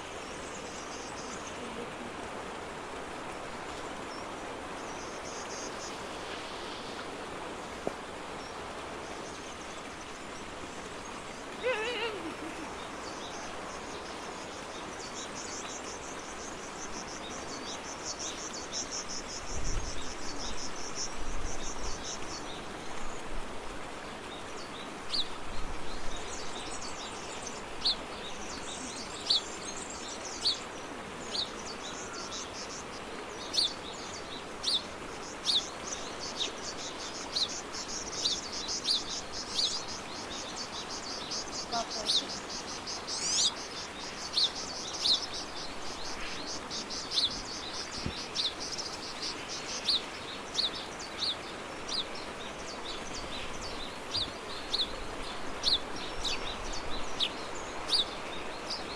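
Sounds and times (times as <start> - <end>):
steady background hiss: 0.0 - 58.9
birds singing: 8.3 - 23.4, 24.0 - 58.9.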